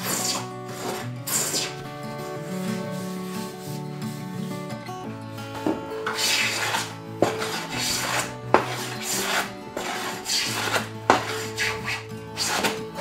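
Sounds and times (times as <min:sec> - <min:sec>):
hand plane shaving wood: 0:00.0 - 0:04.6, 0:05.6 - 0:13.0
background music: 0:00.0 - 0:13.0.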